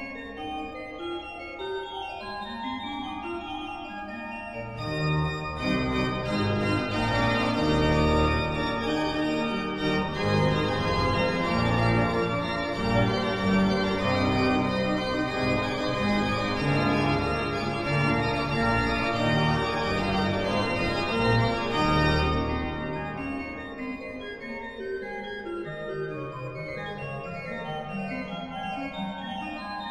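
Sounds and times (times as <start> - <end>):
organ playing classical piece: 0.0 - 29.9.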